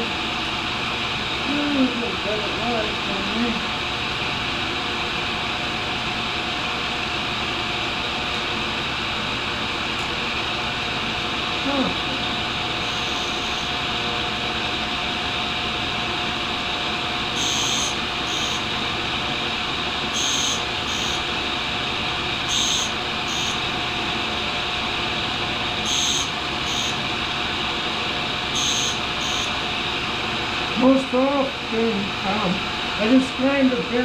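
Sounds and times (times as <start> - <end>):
grinder running: 0.0 - 34.0.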